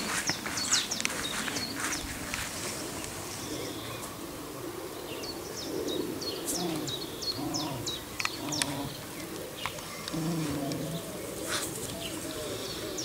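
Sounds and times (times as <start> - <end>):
birds cooing: 0.0 - 13.0
songbird chirping: 0.0 - 13.0.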